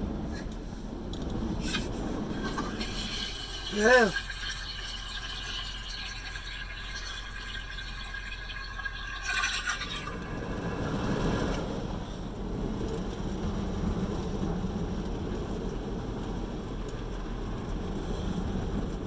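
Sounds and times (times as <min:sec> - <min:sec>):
car wash spraying water on car: 0:00.0 - 0:19.0
water rushing against car body: 0:00.0 - 0:19.0.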